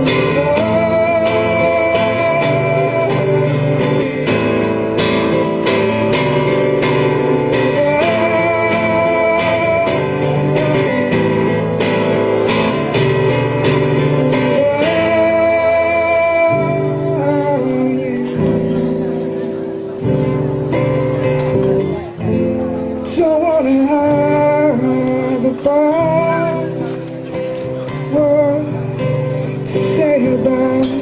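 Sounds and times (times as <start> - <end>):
strummed guitar: 0.0 - 31.0.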